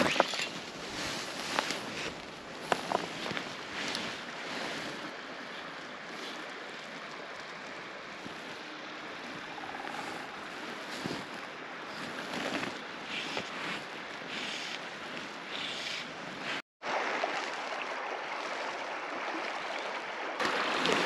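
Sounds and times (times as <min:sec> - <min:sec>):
river rushing over shallow water: 0:00.0 - 0:21.0.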